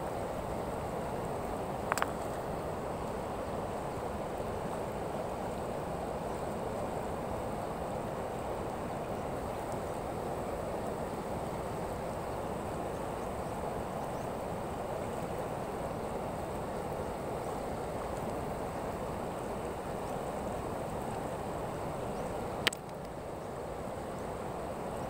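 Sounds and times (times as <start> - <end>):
river flowing over stones: 0.0 - 25.0.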